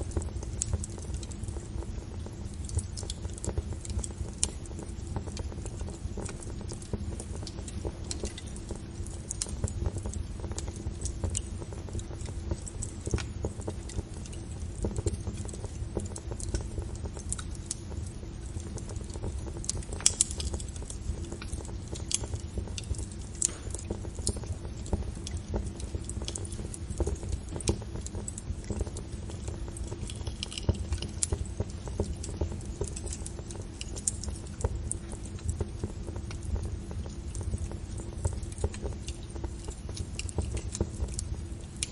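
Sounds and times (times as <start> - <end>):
low rumble of flames: 0.0 - 41.9
wood fire crackling and popping: 0.0 - 41.9.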